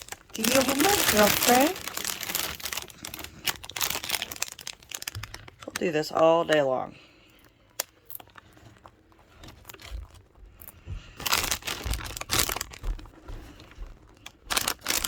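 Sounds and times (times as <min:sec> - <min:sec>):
treat bag crinkling: 0:00.0 - 0:06.8, 0:07.7 - 0:15.0.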